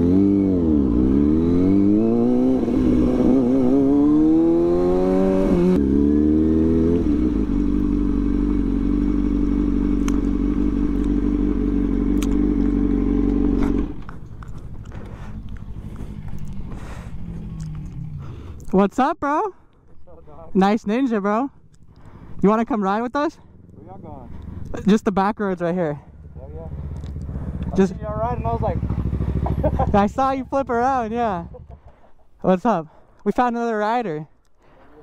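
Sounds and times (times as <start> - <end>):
motorcycle engine revving and idling: 0.0 - 18.6, 20.0 - 32.2.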